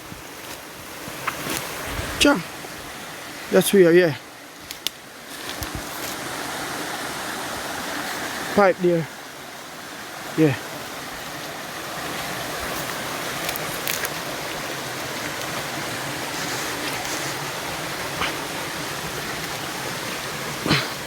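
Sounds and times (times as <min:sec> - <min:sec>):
river stream rushing: 0:00.0 - 0:21.0.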